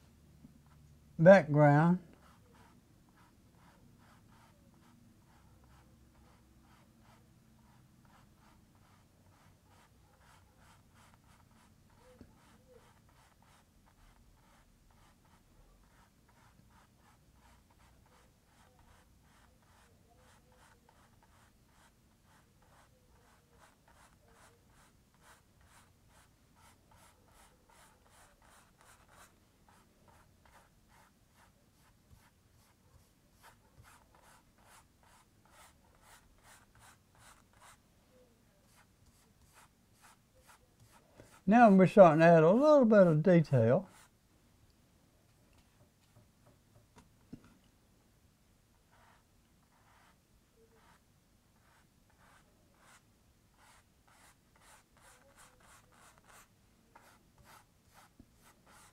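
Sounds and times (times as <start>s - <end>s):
paintbrush strokes on canvas: 2.2s - 44.2s, 48.9s - 58.9s.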